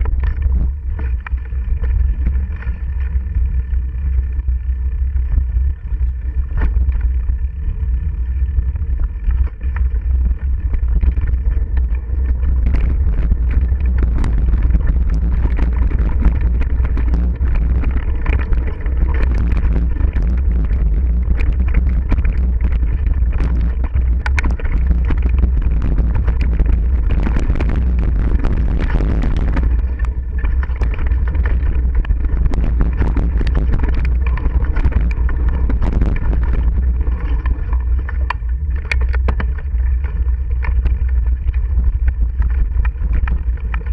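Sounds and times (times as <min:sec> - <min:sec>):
bike rattling over rough ground: 0:00.0 - 0:43.9
wind rumble on microphone: 0:00.0 - 0:43.9.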